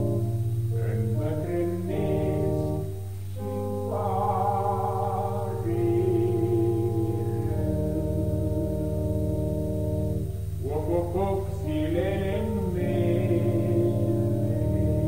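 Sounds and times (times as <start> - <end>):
sustained chords and bass: 0.0 - 15.0.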